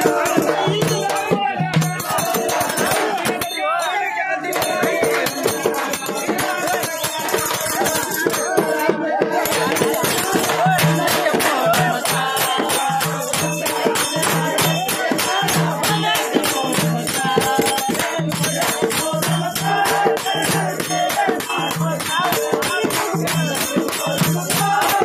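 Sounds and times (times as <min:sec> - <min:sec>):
fast jingling percussion: 0:00.0 - 0:25.0.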